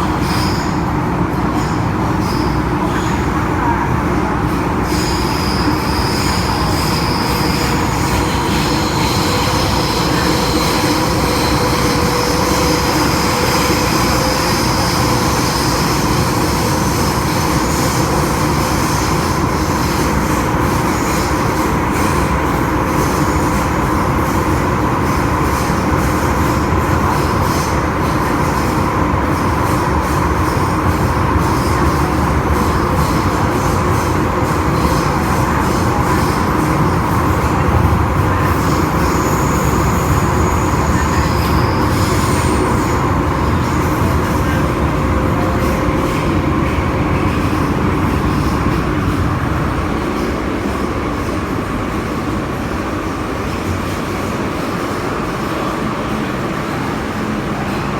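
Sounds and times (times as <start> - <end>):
train wheel-on-rail rumble: 0.0 - 57.9.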